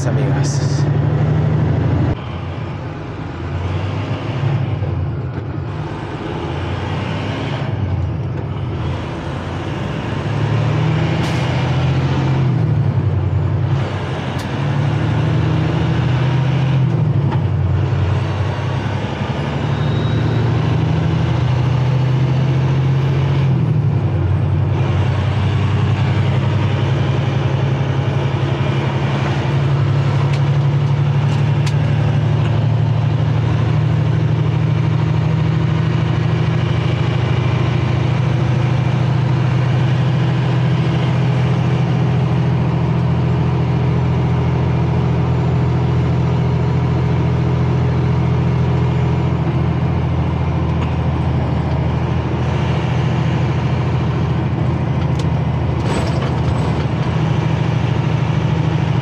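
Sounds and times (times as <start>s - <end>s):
diesel truck engine drone: 0.0s - 59.0s
road noise: 0.0s - 59.0s.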